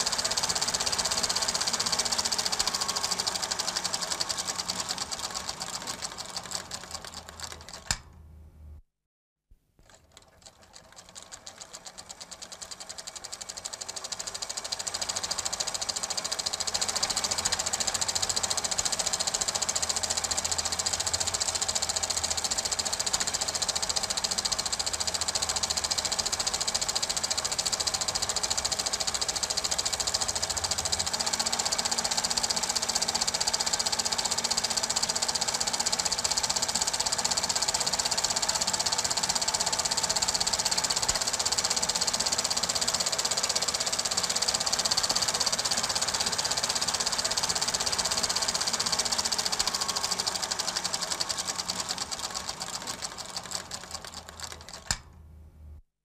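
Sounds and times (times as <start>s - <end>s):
film projector clatter: 0.0s - 8.1s, 9.8s - 55.1s.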